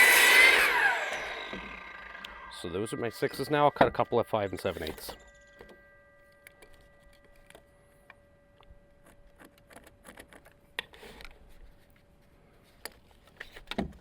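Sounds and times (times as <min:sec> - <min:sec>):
faint steady hum: 0:00.0 - 0:13.4.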